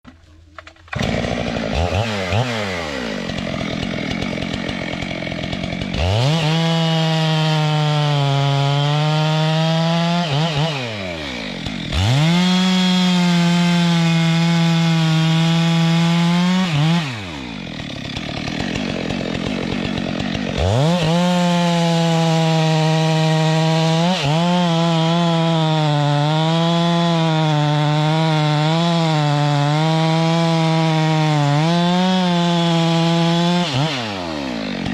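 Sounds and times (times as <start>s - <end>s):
chainsaw cutting wood: 0.5s - 34.9s
chainsaw revving: 0.9s - 34.9s.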